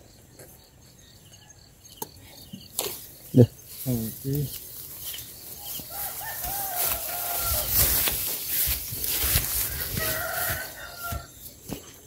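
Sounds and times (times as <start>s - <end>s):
outdoor field noise: 0.0s - 12.0s.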